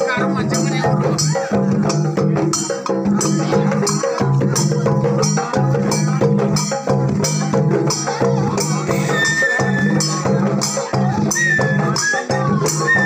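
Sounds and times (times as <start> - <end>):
drums and percussion beat: 0.0 - 13.0.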